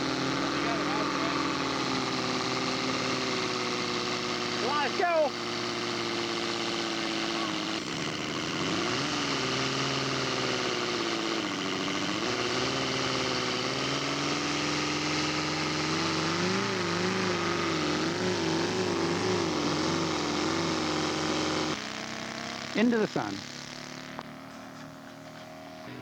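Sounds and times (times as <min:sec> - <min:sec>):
model aircraft radial engine running: 0:00.0 - 0:26.0.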